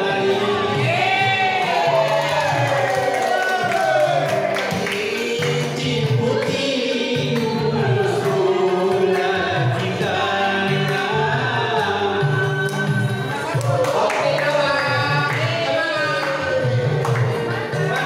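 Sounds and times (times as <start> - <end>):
voices singing: 0.0 - 18.0.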